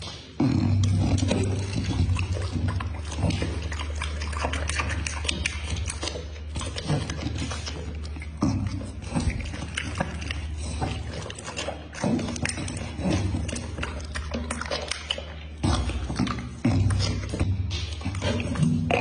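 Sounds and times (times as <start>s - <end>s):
dog chewing and smacking: 0.0s - 19.0s
dog licking lips: 0.0s - 19.0s
steady low hum: 0.0s - 19.0s.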